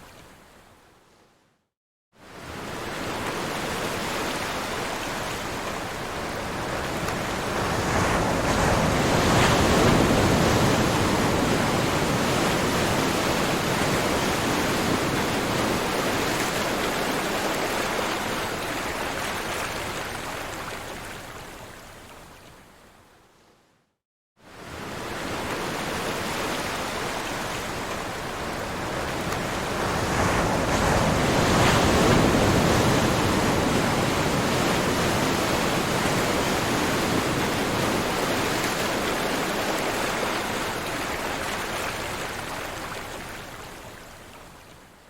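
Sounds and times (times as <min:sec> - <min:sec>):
ocean waves washing: 0:02.3 - 0:21.0, 0:24.5 - 0:44.1.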